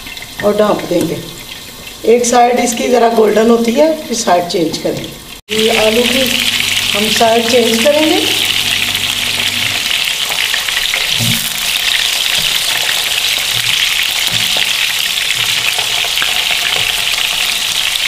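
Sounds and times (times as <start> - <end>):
potatoes sizzling in oil: 0.0 - 18.0.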